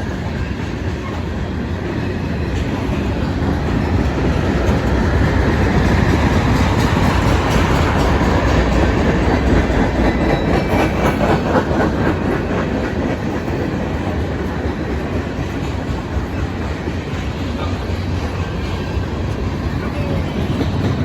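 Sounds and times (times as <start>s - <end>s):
freight train wheels on rails: 0.0s - 21.0s.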